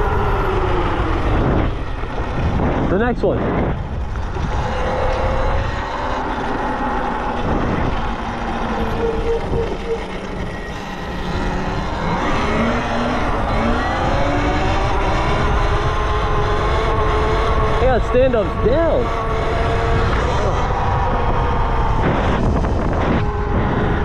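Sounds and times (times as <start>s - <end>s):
electric motor whining: 0.0s - 24.0s
wind noise on microphone: 0.0s - 24.0s.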